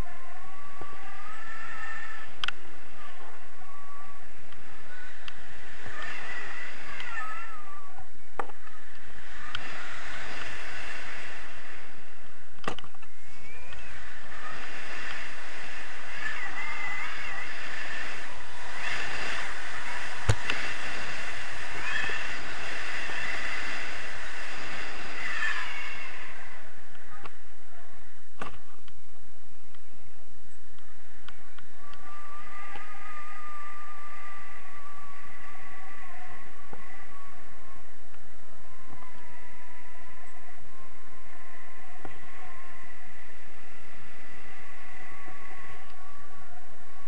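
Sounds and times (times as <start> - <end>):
faint wavering tones: 0.0 - 47.0
wind over microphone: 0.0 - 47.0.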